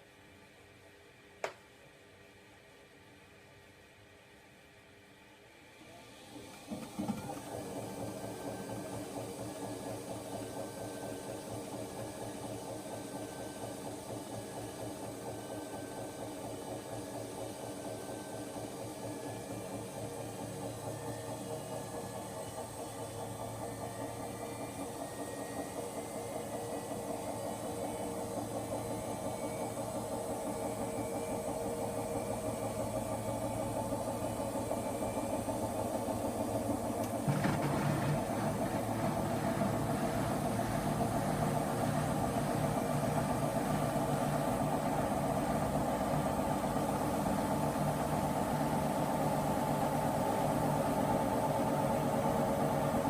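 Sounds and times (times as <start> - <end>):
washing machine spinning: 4.7 - 53.0.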